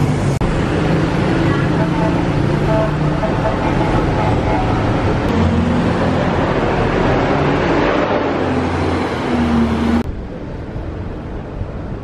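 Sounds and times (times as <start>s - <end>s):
motorbikes and cars passing: 0.0s - 10.1s.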